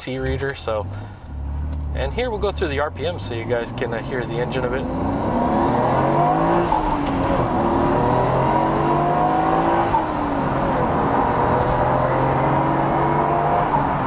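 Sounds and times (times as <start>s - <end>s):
car engine accelerating: 0.2s - 14.0s.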